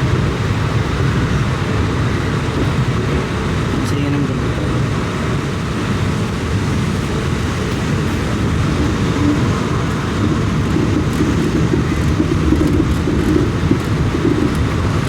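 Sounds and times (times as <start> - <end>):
vehicle rumble from inside: 0.0 - 15.0.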